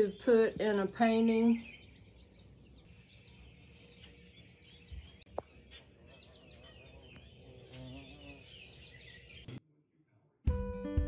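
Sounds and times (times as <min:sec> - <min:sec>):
songbirds chirping: 0:00.0 - 0:10.3.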